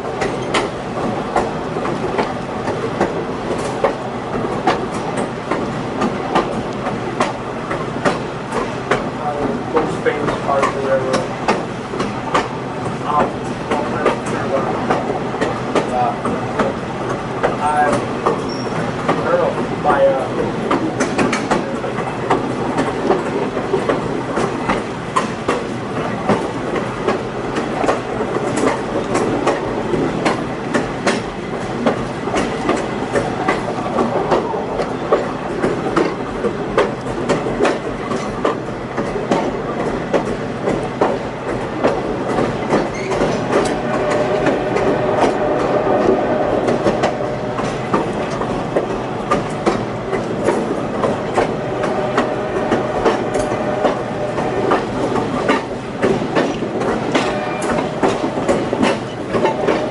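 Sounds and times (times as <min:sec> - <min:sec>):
train cars rumbling: 0:00.0 - 0:59.9
train wheels clicking over rail joints: 0:00.0 - 0:59.9.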